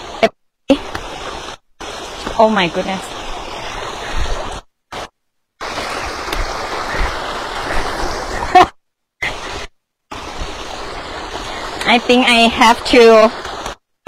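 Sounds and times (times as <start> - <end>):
water rushing over rocks: 0.0 - 13.8.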